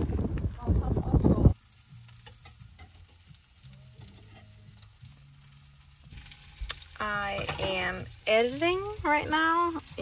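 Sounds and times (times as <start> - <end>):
faint sizzle of frying: 0.0 - 10.0.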